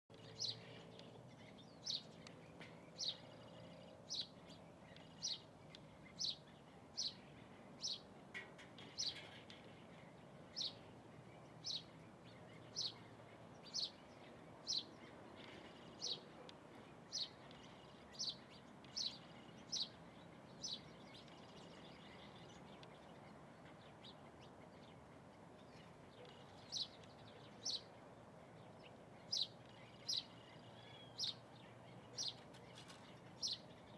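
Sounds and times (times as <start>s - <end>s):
bird chirping: 0.1s - 8.2s, 8.8s - 33.9s.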